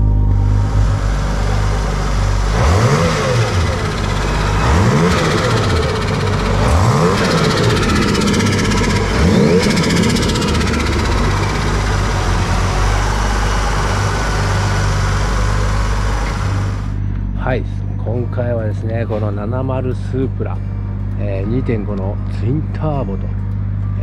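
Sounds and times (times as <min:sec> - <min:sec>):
car engine revving and idling: 0:00.0 - 0:24.0.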